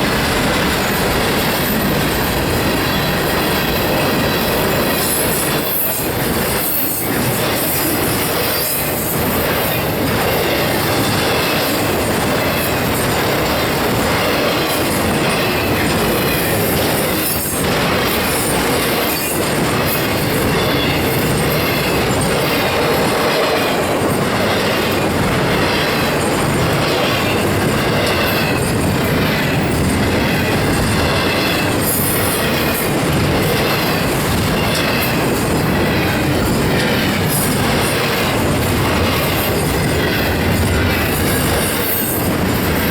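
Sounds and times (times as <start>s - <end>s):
train wheels rumbling on track: 0.0s - 42.9s
wheels clickety-clack: 0.0s - 42.9s.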